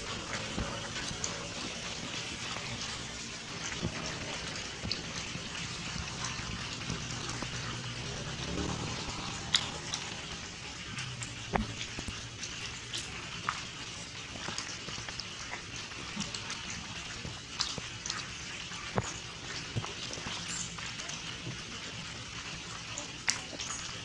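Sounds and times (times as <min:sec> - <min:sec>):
rain on standing water: 0:00.0 - 0:24.0.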